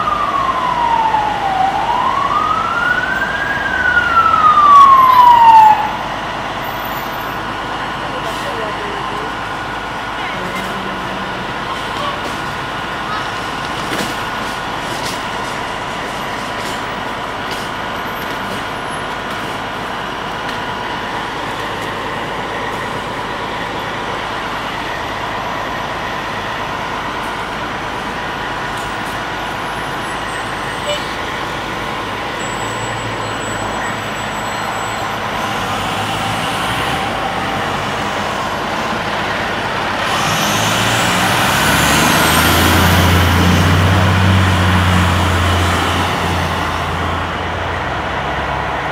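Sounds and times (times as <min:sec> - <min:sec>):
diesel truck engines idling: 0:00.0 - 0:48.9
truck engine accelerating: 0:00.0 - 0:48.9.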